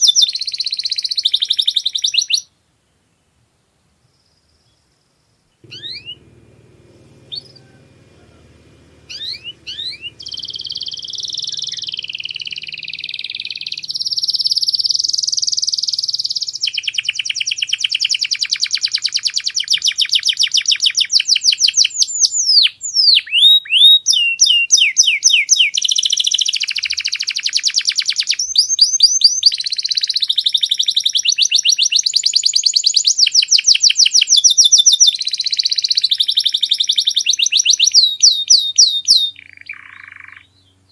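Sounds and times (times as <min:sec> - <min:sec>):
canary singing trills: 0:00.0 - 0:02.5, 0:05.6 - 0:40.9.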